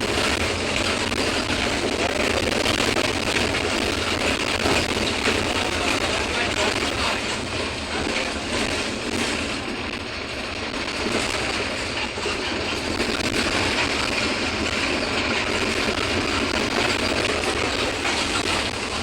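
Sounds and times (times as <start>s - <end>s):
bus engine drone: 0.0s - 19.0s
rolling road noise: 0.0s - 19.0s.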